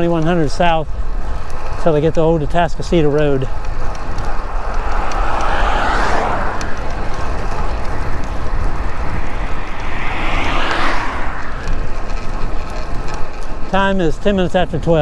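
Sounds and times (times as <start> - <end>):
wind rumble on microphone: 0.0 - 15.0
vehicles passing: 0.9 - 13.8.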